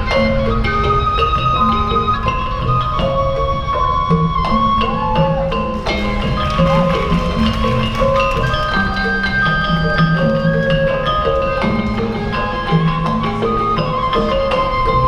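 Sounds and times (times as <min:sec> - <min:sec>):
held melodic notes: 0:00.0 - 0:15.0
mallet percussion pattern: 0:00.0 - 0:15.0.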